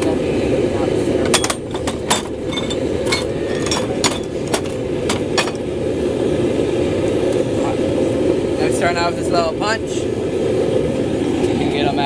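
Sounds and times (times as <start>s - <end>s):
forge roaring: 0.0s - 12.0s.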